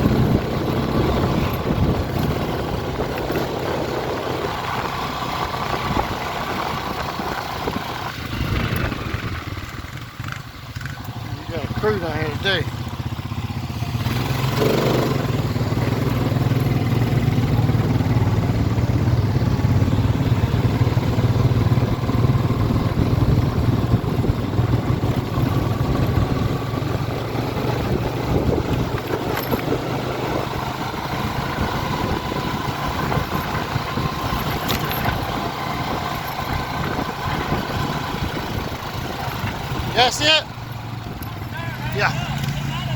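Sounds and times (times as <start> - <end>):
quad bike engine running: 0.0 - 42.9.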